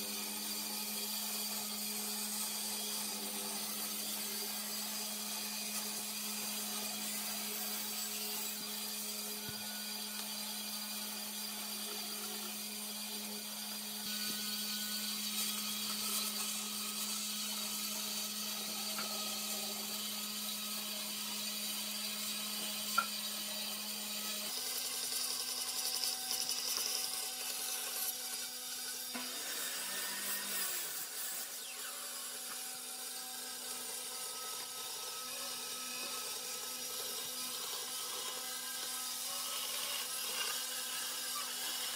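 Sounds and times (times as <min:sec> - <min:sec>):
band saw motor hum: 0:00.0 - 0:41.9
saw blade cutting wood: 0:00.0 - 0:41.9.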